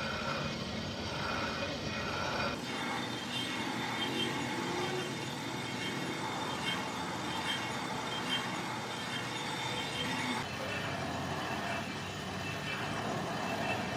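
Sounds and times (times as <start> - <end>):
workshop machinery running: 0.0 - 13.9.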